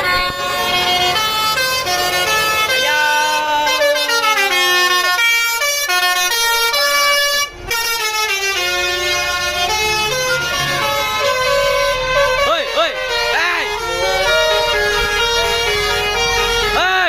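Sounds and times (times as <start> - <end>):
bus melody air horn: 0.0 - 17.0.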